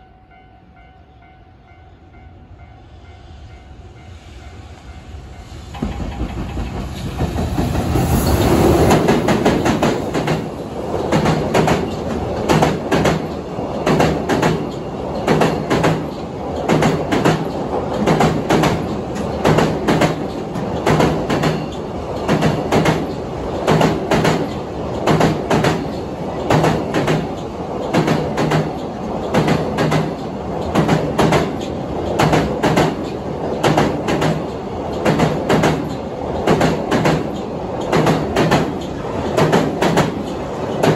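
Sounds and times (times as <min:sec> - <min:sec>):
train passing: 0:00.0 - 0:40.9
wheels clacking over rail joints: 0:05.8 - 0:40.9.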